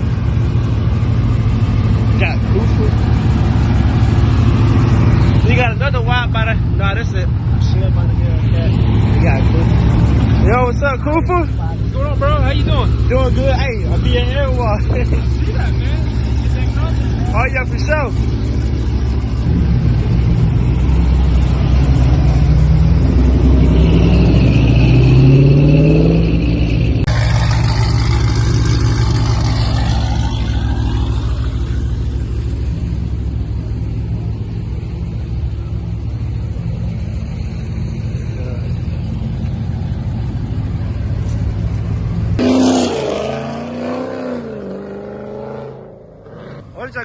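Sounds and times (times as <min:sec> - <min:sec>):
car engine revving: 0:00.0 - 0:47.0.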